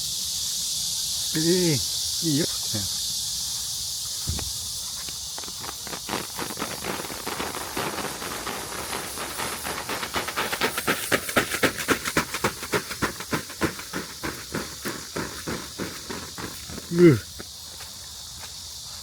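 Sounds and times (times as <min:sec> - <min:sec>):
cicadas shrilling: 0:00.0 - 0:19.0.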